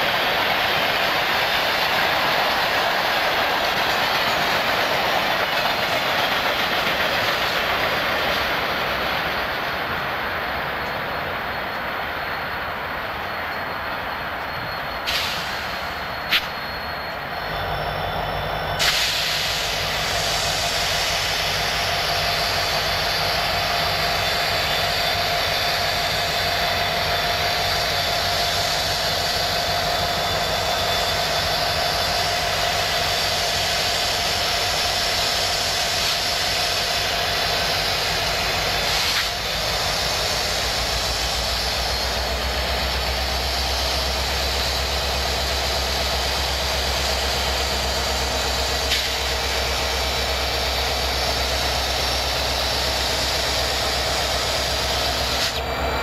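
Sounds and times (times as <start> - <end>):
diesel locomotive engine running: 0.0 - 56.0
locomotive whine: 0.0 - 56.0.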